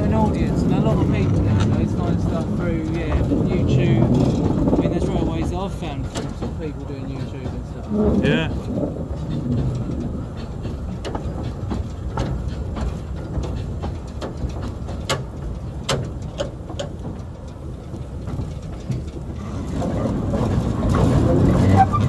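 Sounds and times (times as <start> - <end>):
sharp clicks and knocks: 0.0 - 22.0
steam locomotive rumble: 0.0 - 22.0.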